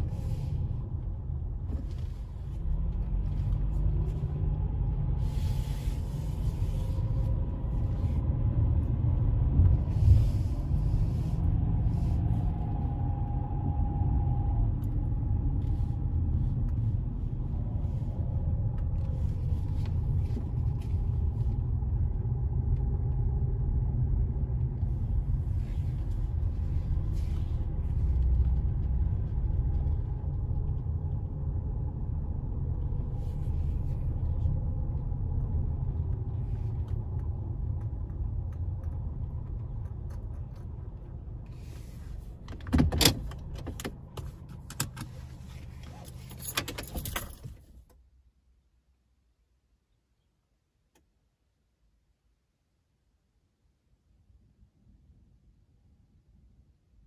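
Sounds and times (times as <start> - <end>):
road and engine rumble inside car: 0.0 - 57.0.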